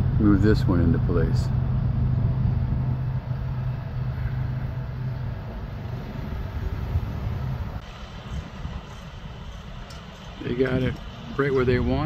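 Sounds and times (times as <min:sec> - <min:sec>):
truck diesel engine hum: 0:00.0 - 0:12.0.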